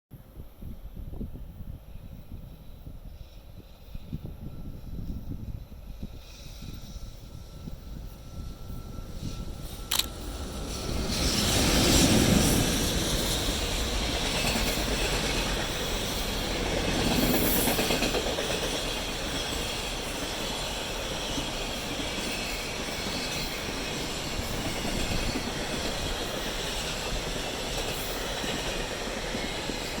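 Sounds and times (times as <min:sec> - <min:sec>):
freight train passing: 0:00.2 - 0:30.0.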